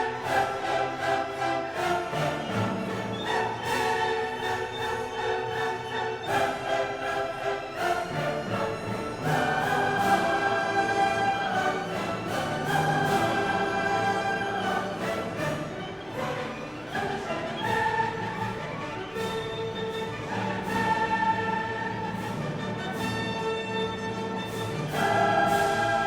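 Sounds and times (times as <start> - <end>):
orchestral music held chords: 0.0 - 26.0.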